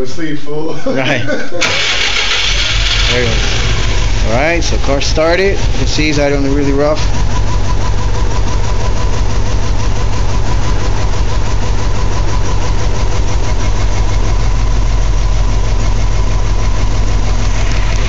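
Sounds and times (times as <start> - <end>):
car engine idling rough: 1.6 - 18.0.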